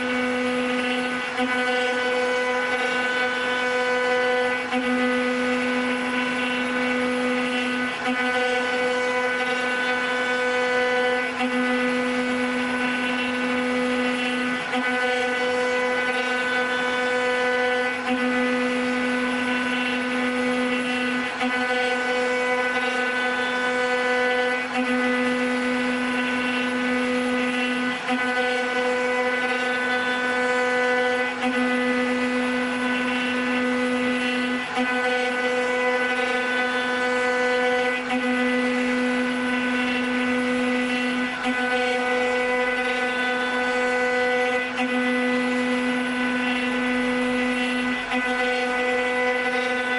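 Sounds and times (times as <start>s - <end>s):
wood router machine whine: 0.0s - 49.9s.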